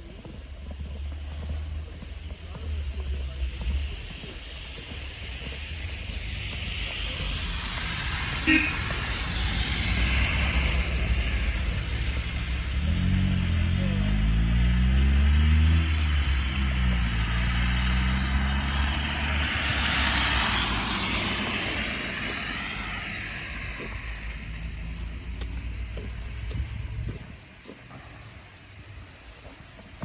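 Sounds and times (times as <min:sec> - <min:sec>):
tyres rushing on road: 0:00.0 - 0:30.0
car engine accelerating: 0:00.3 - 0:27.2.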